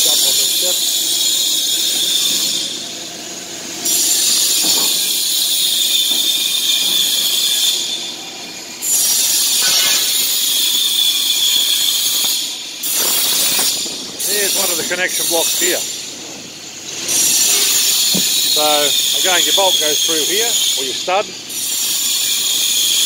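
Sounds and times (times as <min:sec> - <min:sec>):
grinder grinding metal: 0:00.0 - 0:08.1, 0:08.8 - 0:23.0.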